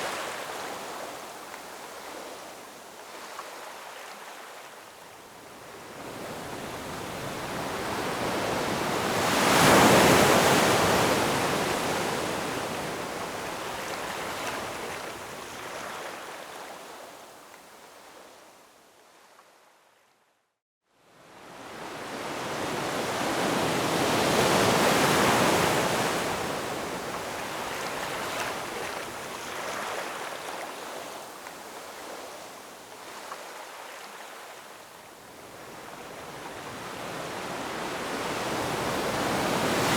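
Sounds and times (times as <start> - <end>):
ocean waves washing ashore: 0.0 - 17.2, 21.2 - 39.9.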